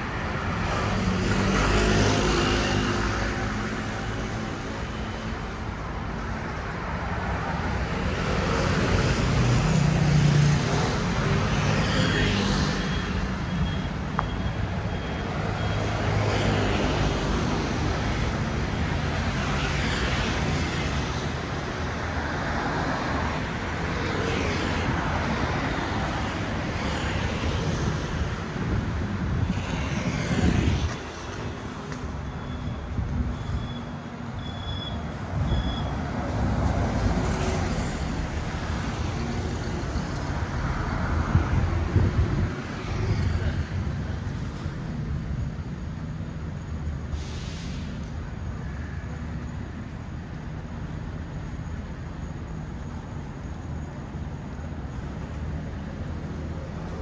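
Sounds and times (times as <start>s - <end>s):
cars and scooters passing: 0.0s - 47.2s, 47.8s - 57.0s.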